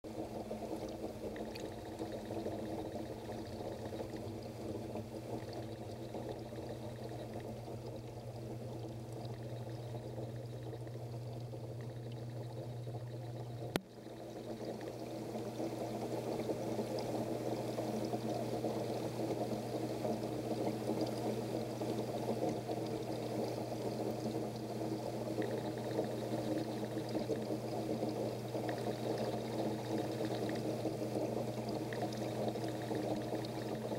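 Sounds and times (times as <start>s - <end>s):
low electrical hum: 0.0s - 33.9s
aquarium water running and splashing: 0.1s - 33.9s.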